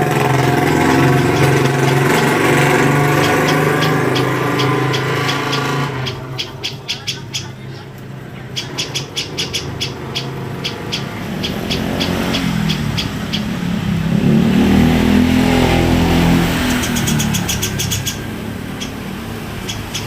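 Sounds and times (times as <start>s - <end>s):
bird chirping: 0.0s - 14.4s, 15.0s - 20.0s
vehicle driving past: 0.0s - 20.0s.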